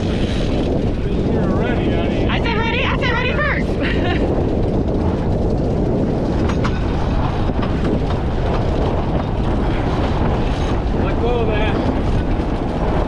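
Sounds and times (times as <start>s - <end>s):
water washing along hull: 0.0s - 13.0s
wind noise on microphone: 0.0s - 13.0s.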